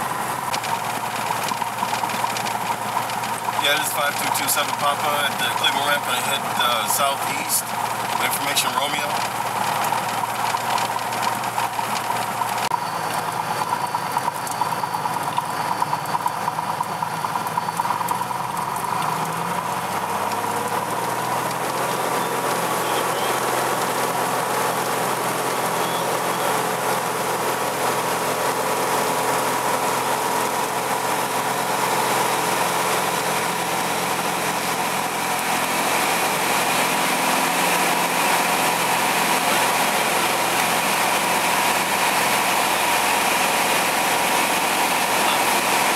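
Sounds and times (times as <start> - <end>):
propeller plane engine: 0.0 - 45.9.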